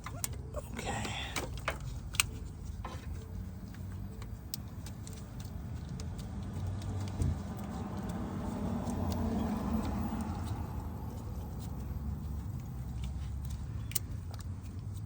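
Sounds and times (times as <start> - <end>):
light clicks and taps: 0.1 - 15.0.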